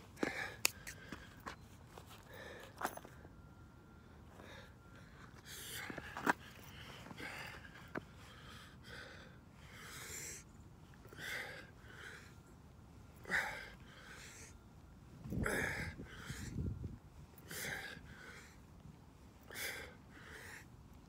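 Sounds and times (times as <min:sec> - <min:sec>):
man breathing hard: 0:00.1 - 0:03.0, 0:04.2 - 0:12.5, 0:13.2 - 0:20.8.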